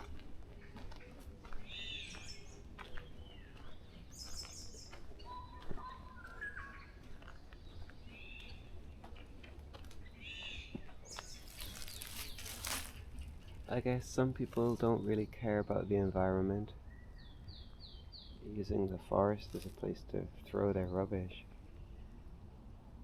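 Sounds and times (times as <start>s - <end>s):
birds chirping: 0.0s - 22.6s.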